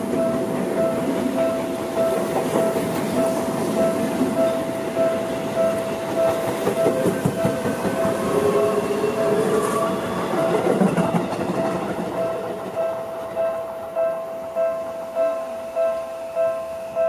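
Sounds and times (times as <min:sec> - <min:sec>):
train wheels rumbling and clicking: 0:00.0 - 0:14.6
level-crossing warning bell: 0:00.0 - 0:17.0.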